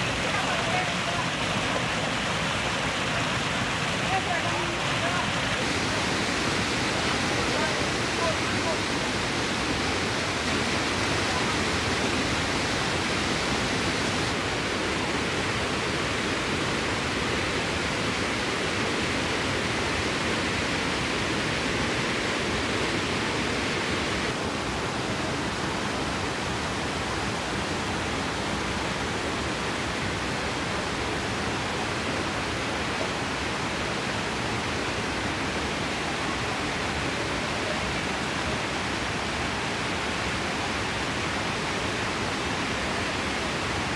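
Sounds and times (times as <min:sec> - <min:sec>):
water rushing over boulders: 0:00.0 - 0:43.9.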